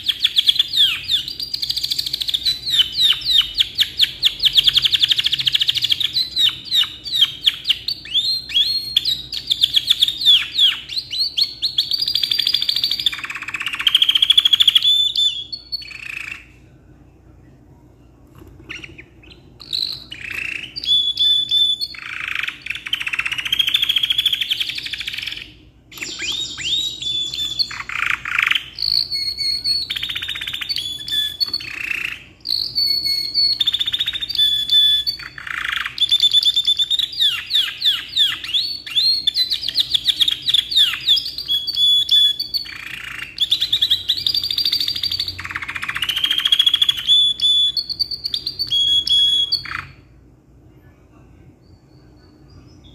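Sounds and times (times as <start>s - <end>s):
canary singing trills: 0.0s - 16.6s, 18.6s - 50.1s, 51.6s - 52.9s.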